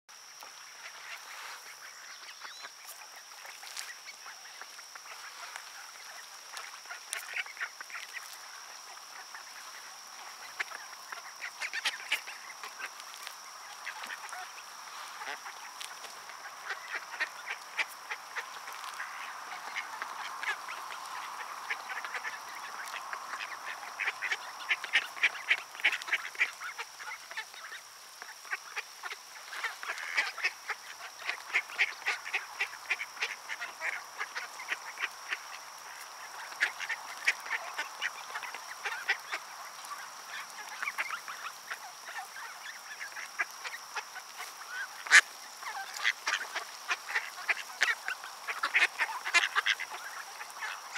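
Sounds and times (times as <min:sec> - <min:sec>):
ducks quacking: 0:03.5 - 0:50.9.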